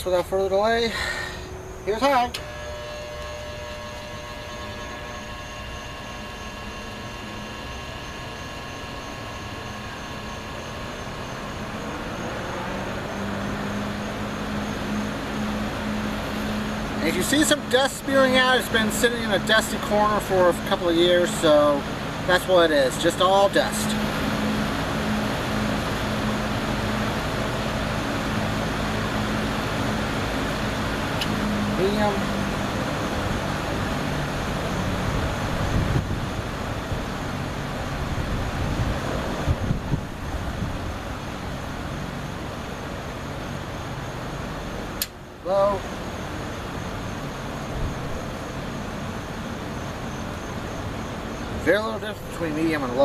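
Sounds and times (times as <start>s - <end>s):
air rushing through fan blades: 0.0s - 53.0s
box fan motor humming: 0.0s - 53.0s
faint whining tones: 0.0s - 53.0s.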